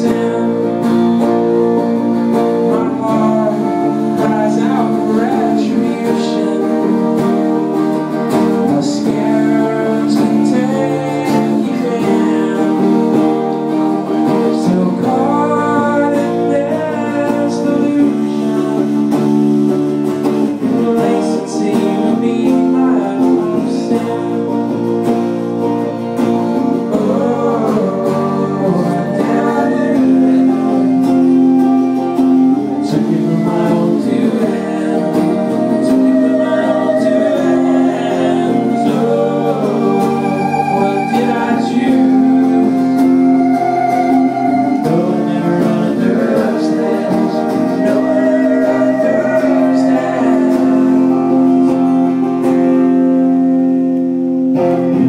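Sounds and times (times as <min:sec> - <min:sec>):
person singing: 0:00.0 - 0:53.6, 0:54.6 - 0:55.0
acoustic guitar strumming: 0:00.0 - 0:55.0
electric guitar: 0:00.0 - 0:55.0.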